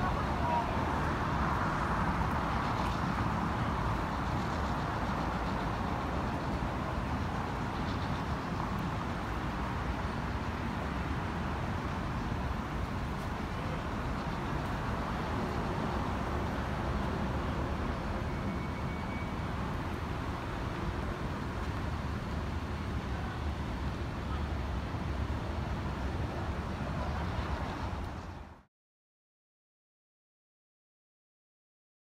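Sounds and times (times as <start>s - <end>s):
city road traffic: 0.0s - 28.7s.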